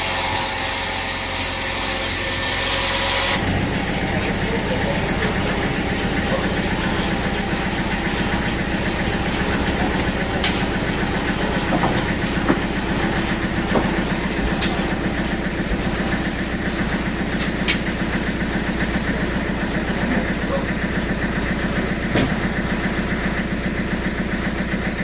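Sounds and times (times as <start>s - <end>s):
band saw droning: 0.0s - 25.0s.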